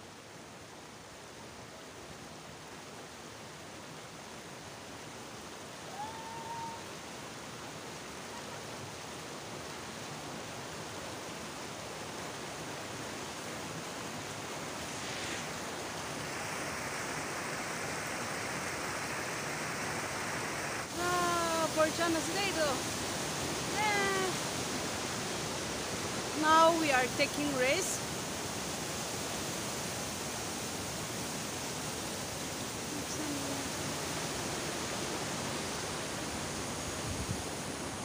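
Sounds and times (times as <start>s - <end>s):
stream running over rocks: 0.0s - 38.0s.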